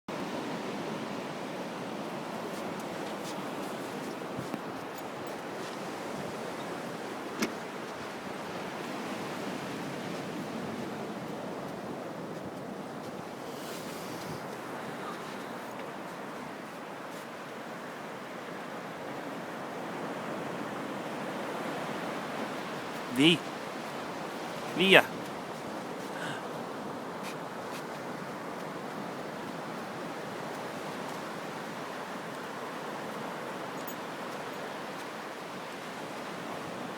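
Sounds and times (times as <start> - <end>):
ocean surf washing on beach: 0.1 - 36.9.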